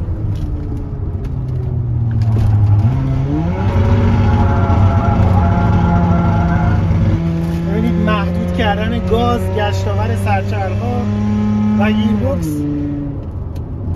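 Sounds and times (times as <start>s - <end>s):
car engine pulling under load: 0.0s - 11.8s.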